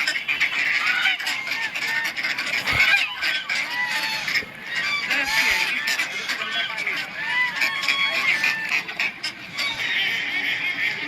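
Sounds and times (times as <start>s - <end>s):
ducks and geese calling: 0.0s - 11.0s.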